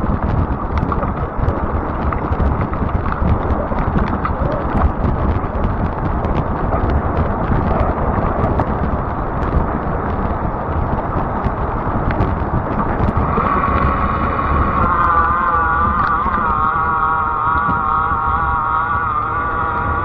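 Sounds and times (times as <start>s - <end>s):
e-bike tire rumble on pavement: 0.0s - 20.0s
wind buffeting microphone: 0.0s - 20.0s.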